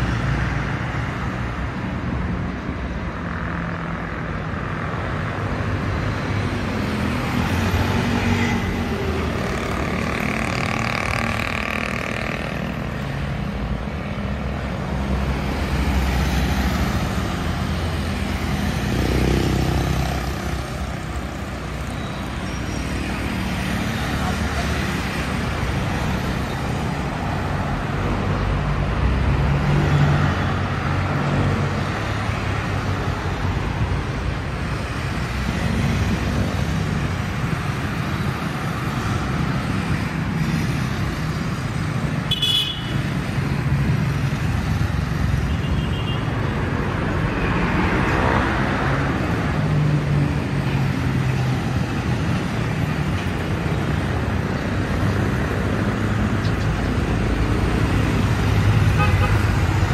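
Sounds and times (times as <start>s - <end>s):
traffic passing: 0.0s - 59.9s.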